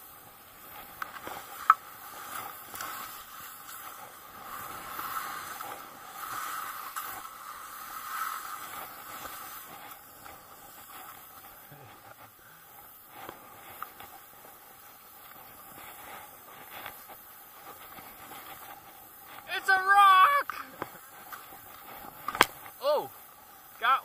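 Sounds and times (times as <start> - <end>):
skis hissing through snow: 0.0 - 24.0.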